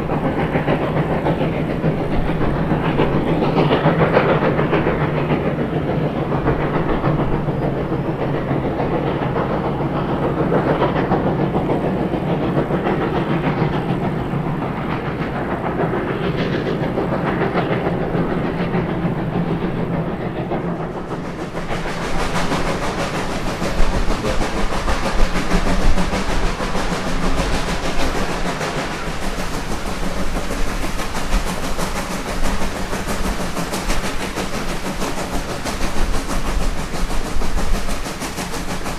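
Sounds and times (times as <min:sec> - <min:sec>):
steam locomotive exhaust: 0:00.0 - 0:38.9
train wheels rumbling on rails: 0:00.0 - 0:38.9.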